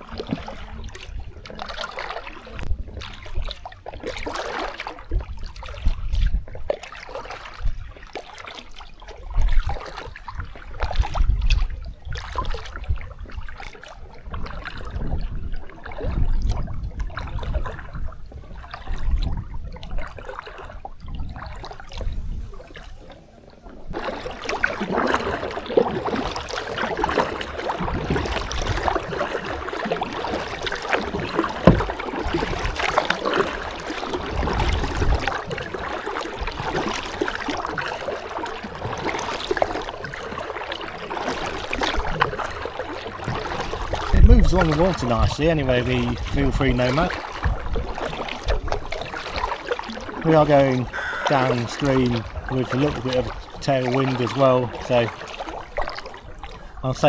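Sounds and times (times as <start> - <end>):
paddle splashing water: 0.0 - 57.0.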